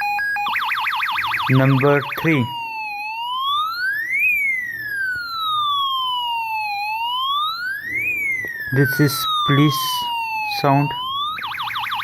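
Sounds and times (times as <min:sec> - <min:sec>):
electronic siren wail: 0:00.0 - 0:12.0
fast warbling siren tone: 0:00.0 - 0:12.0.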